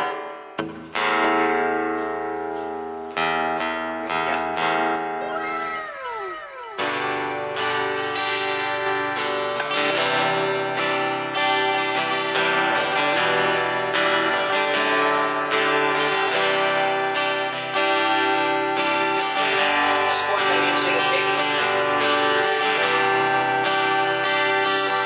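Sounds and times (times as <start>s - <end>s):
acoustic-electric guitar strummed: 0.0s - 25.0s.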